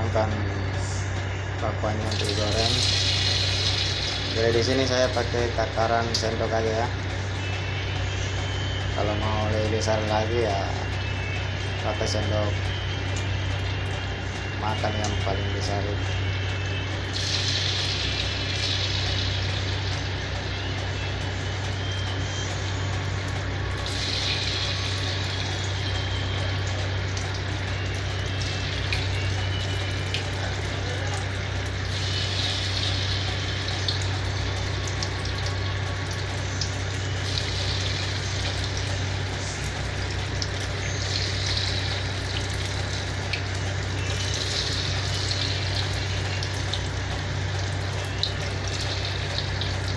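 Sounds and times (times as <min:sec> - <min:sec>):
steady low hum: 0:00.0 - 0:49.9
batter sizzling in hot oil: 0:01.4 - 0:49.9.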